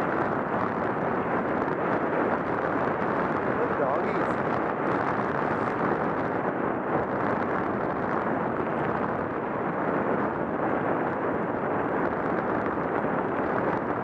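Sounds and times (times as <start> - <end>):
tyres rumbling on snowy road: 0.0 - 14.0
wind buffeting the microphone: 0.0 - 14.0.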